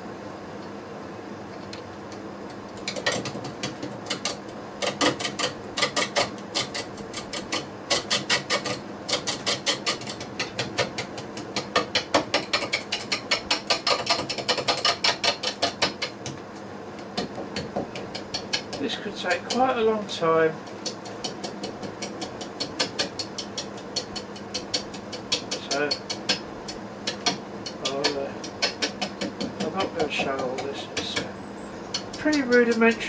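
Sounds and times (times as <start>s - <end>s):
lathe humming: 1.6s - 33.0s
log knocking against lathe tool: 2.8s - 33.0s.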